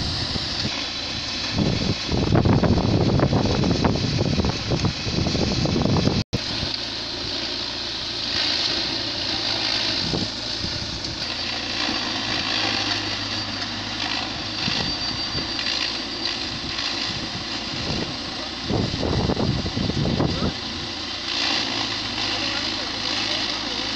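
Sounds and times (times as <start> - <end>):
hammer mill grinding stalks: 0.0 - 23.9
tractor engine humming: 0.0 - 23.9.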